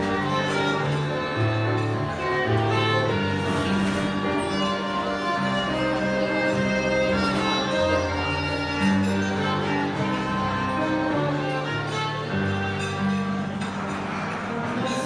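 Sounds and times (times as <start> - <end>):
string melody: 0.0 - 15.0.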